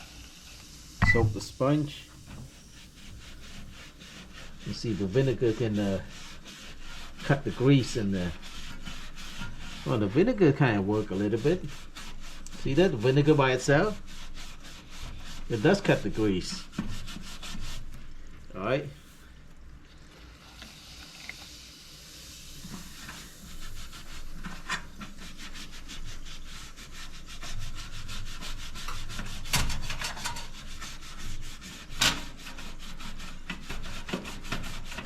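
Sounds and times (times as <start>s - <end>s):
sponge scrubbing grease: 1.2s - 19.4s, 22.6s - 35.0s.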